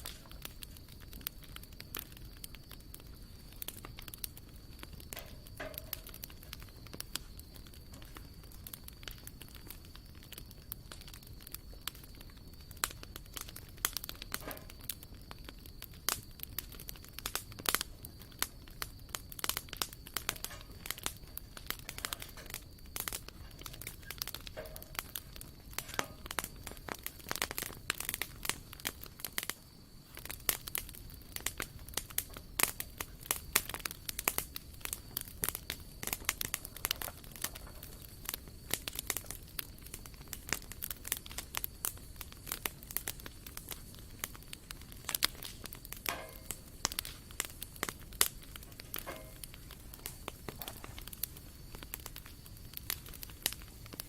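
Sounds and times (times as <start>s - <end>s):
campfire crackling and popping: 0.0s - 54.0s
hiss of burning: 0.0s - 54.0s.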